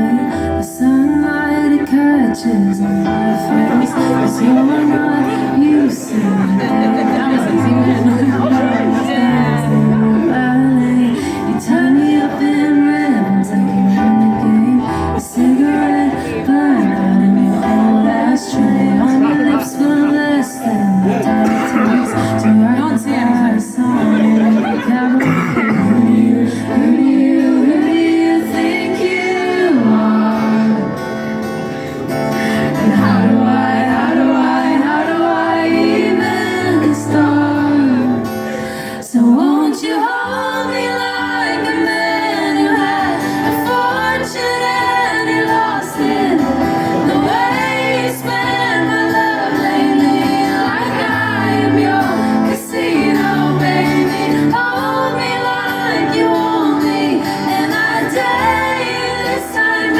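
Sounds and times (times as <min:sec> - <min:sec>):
guitar playing: 0:00.0 - 0:59.9
person singing: 0:00.0 - 0:59.9.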